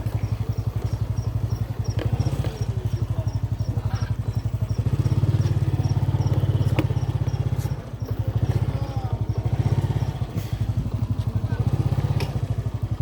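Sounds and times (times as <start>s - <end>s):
vehicle engine throbbing: 0.0s - 13.0s.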